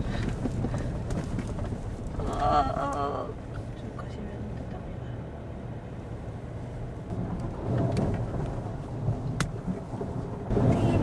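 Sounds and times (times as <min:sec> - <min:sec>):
tyres rumbling on rough road: 0:00.0 - 0:11.0.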